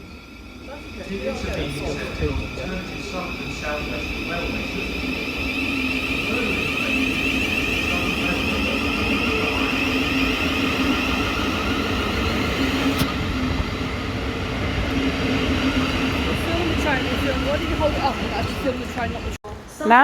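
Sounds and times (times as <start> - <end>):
electric train motor hum: 0.0 - 19.4.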